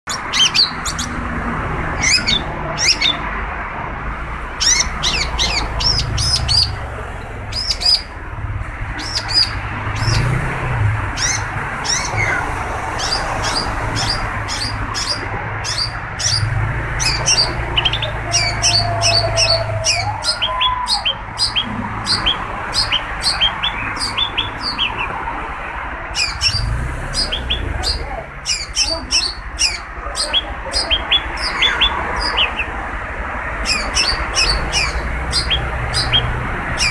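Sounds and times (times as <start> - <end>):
bird chattering calls: 0.1 - 1.2, 2.0 - 3.3, 4.4 - 8.2, 9.0 - 10.5, 11.1 - 25.2, 26.1 - 32.8, 33.6 - 36.9.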